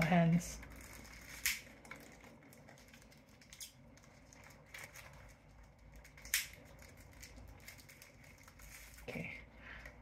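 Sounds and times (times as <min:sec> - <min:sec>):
plastic wrapping rustling: 0:00.0 - 0:10.0.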